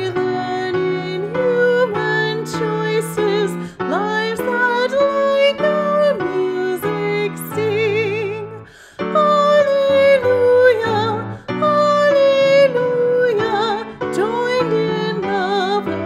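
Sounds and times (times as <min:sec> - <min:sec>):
woman singing a hymn: 0:00.0 - 0:16.0.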